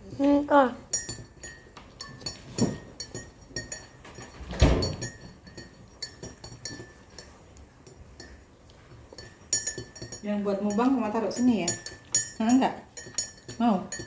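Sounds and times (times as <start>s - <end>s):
spoon clinking on a plate: 0.9s - 14.0s.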